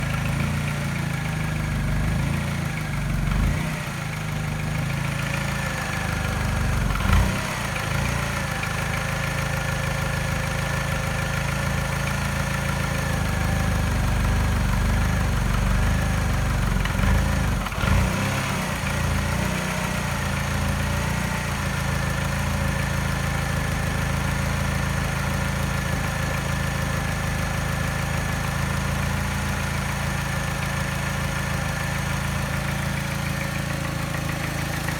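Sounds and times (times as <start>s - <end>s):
engine idling roughly with tap: 0.0s - 34.9s.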